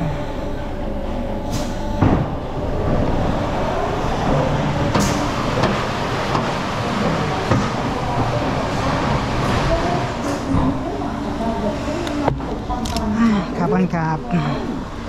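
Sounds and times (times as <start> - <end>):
roller coaster train rumbling: 0.0 - 15.0.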